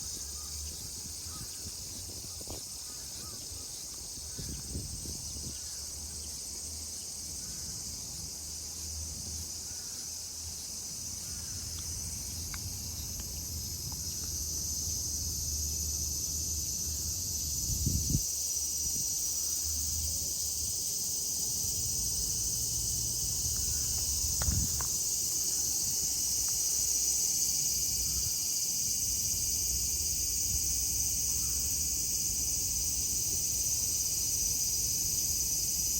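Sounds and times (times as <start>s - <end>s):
cicadas calling: 0.0s - 35.9s.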